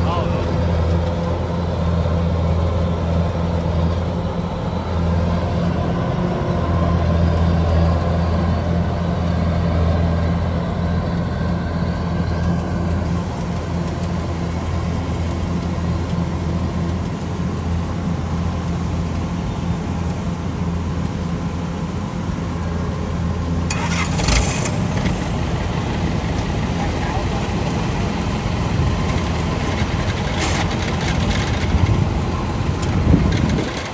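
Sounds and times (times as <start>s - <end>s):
combine harvester diesel engine: 0.0s - 33.9s.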